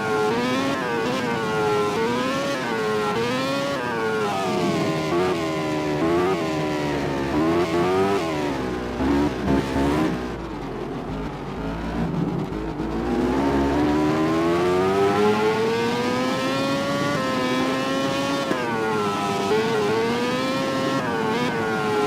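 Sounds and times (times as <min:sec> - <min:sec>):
racing motorcycle engine revving: 0:00.0 - 0:22.0.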